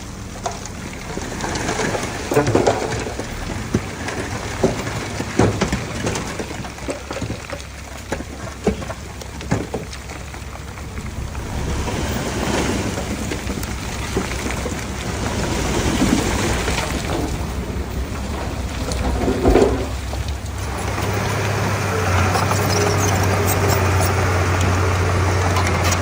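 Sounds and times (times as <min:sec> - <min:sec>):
bulldozer diesel engine rumbling: 0:00.0 - 0:26.0
knocks and clatter: 0:00.3 - 0:24.7.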